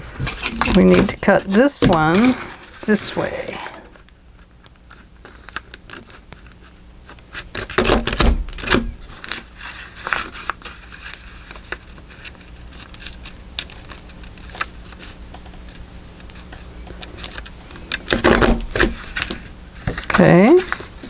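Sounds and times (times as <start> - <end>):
paper rustling and crinkling: 0.0 - 21.0.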